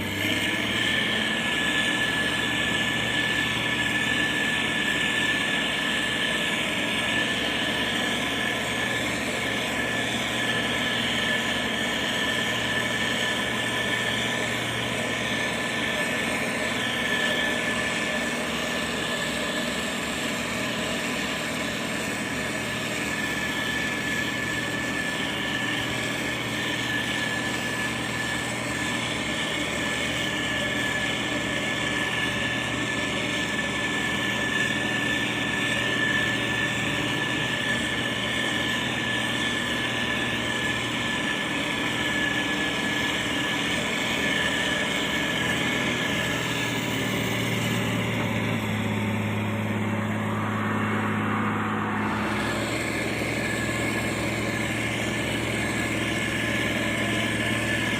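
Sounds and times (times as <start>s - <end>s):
diesel engine running: 0.0s - 57.9s
high whine: 0.0s - 57.9s.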